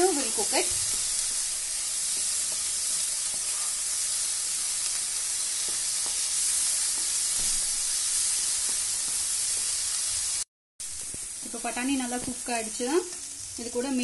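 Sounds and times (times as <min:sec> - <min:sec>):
vegetables sizzling in butter: 0:00.0 - 0:14.0.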